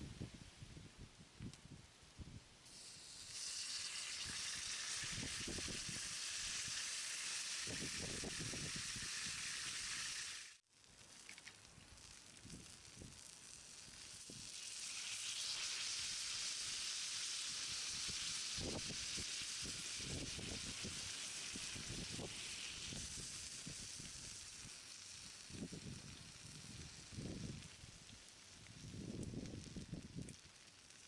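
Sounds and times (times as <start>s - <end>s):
food sizzling on hot plate: 2.7s - 31.0s.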